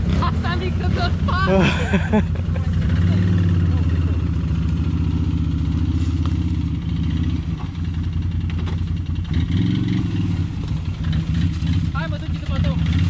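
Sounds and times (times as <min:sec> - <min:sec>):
quad bike engine at low revs: 0:00.0 - 0:13.0.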